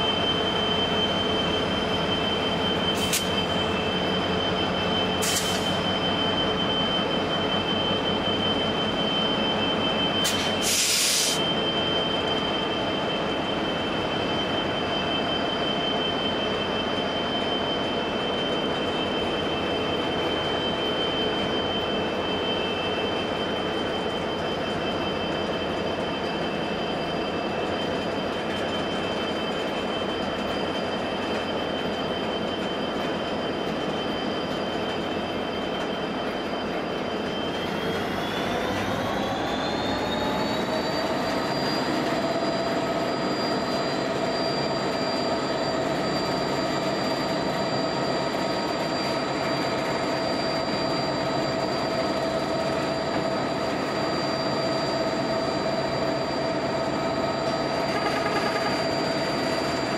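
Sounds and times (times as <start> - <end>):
high steady whine: 0.0 - 59.9
train engines and wheels rumbling: 0.0 - 59.9.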